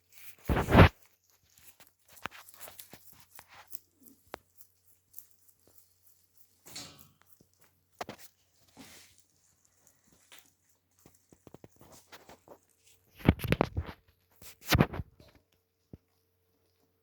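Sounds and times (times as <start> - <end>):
rabbit chewing lettuce: 0.0 - 17.0.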